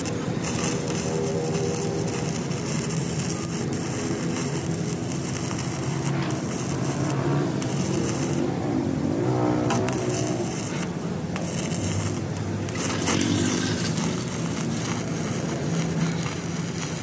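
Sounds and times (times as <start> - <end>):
constant hiss: 0.0 - 17.0
machine humming: 0.0 - 17.0.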